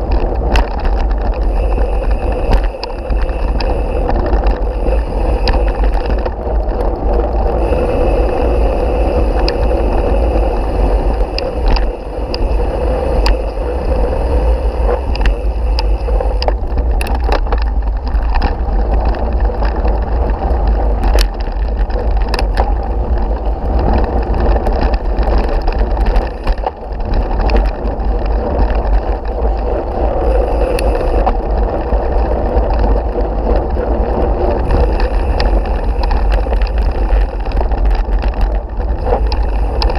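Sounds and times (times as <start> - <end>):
bike clicks and rattles: 0.0 - 39.9
bike tyre noise on gravel: 0.0 - 39.9
wind rumble on microphone: 0.0 - 39.9.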